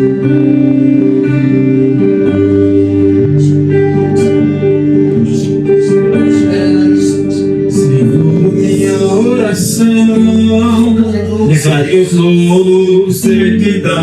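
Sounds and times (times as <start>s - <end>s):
guitar sustained notes: 0.0s - 14.0s
person singing: 0.0s - 14.0s.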